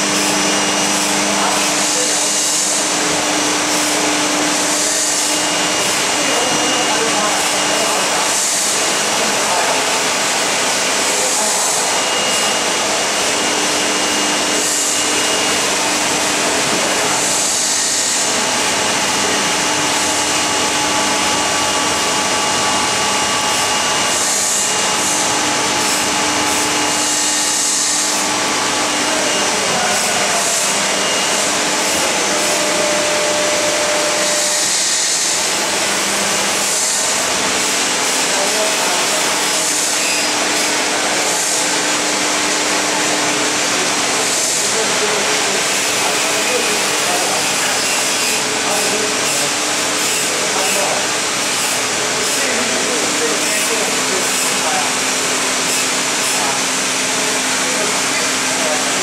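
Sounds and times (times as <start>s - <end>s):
heat press machine whir: 0.0s - 59.0s.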